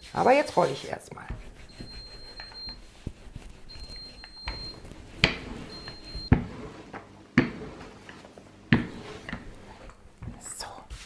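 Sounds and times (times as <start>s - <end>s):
rolling pin rolling dough: 0.0s - 11.0s.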